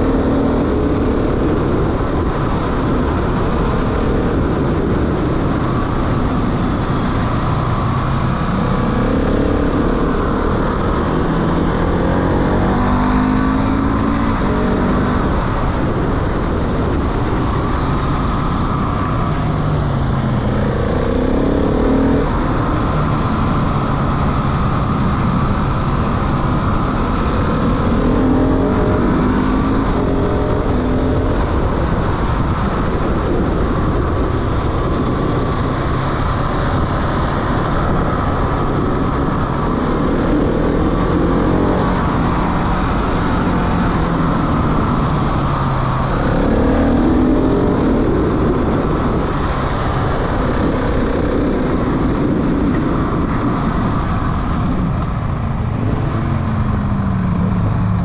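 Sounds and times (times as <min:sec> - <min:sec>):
motorcycle engine revving: 0:00.0 - 0:58.0
wind noise on microphone: 0:00.0 - 0:58.0.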